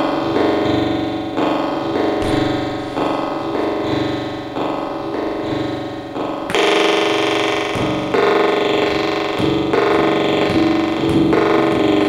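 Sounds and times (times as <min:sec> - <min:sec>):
buzzy electronic drone tones: 0:00.0 - 0:12.0.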